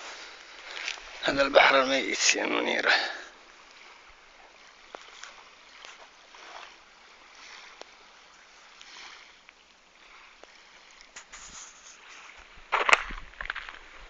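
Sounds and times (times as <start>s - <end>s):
soft outdoor rush: 0.0s - 14.0s.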